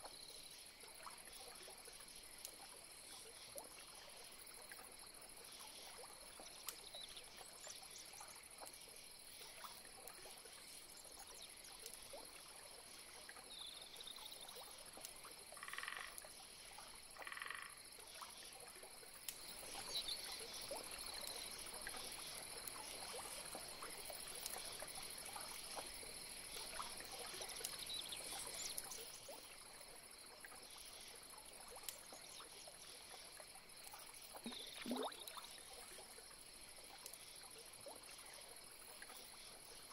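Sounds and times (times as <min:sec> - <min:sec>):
frogs croaking: 0:00.1 - 0:39.9.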